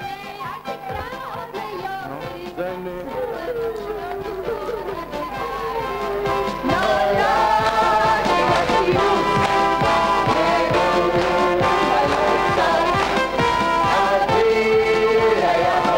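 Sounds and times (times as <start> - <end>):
festive brass music with singing: 0.0 - 15.9.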